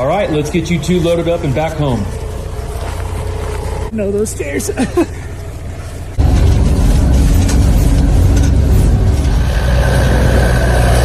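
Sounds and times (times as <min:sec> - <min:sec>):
snowcat engine rumbling: 0:00.0 - 0:11.0.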